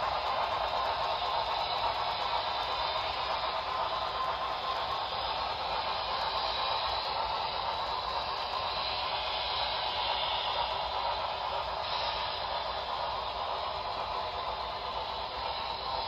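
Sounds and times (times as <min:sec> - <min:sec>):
model train rushing on track: 0:00.0 - 0:16.0.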